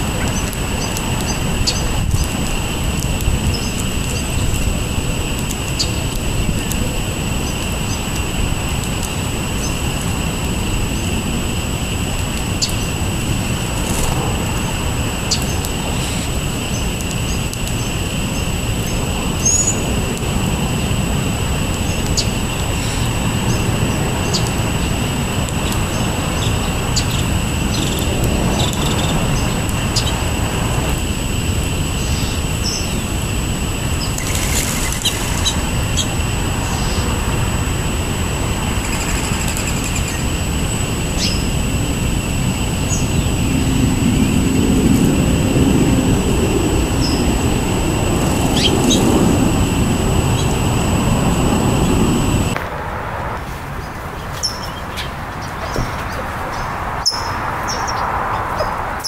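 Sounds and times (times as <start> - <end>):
small songbirds chirping: 0.0 - 52.6, 53.8 - 59.0
steady low rumble: 0.0 - 59.0.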